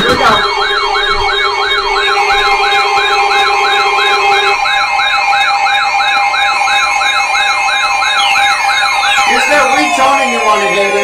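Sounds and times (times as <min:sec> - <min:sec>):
high warble: 0:00.0 - 0:05.7, 0:07.0 - 0:11.0
electronic siren sweeping upward: 0:00.0 - 0:11.0
steady alert tones: 0:00.0 - 0:11.0.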